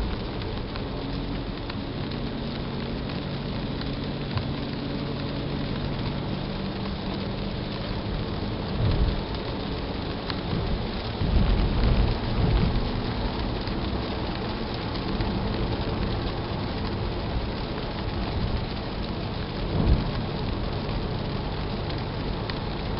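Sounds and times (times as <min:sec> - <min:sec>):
heavy low rumbles: 0:00.0 - 0:22.9
road and engine noise inside car: 0:00.0 - 0:22.9.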